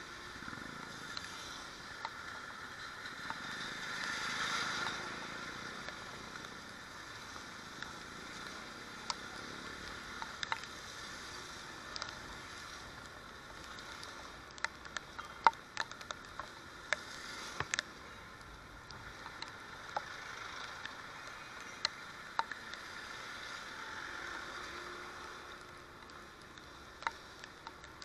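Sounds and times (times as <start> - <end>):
rain hiss on wet road: 0.0 - 28.0
raindrops ticking on camera: 0.0 - 28.0.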